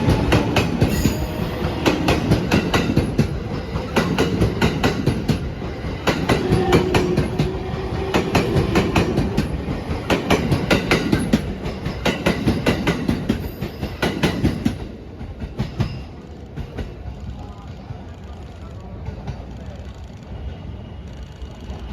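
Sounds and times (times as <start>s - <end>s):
train wheels clattering on rail joints: 0.0s - 18.1s
train rumble: 0.0s - 21.9s.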